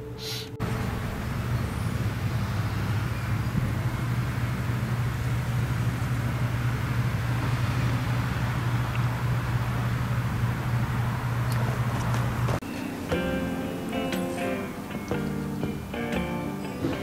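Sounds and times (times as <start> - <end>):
low mechanical hum: 0.0 - 17.0
outdoor background noise: 0.0 - 17.0.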